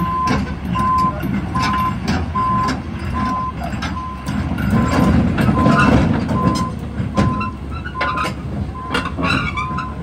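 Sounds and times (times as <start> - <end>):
diesel engine rumble: 0.0 - 10.0
excavator reversing alarm beeping: 0.0 - 10.0
sharp metallic clanks: 0.0 - 10.0.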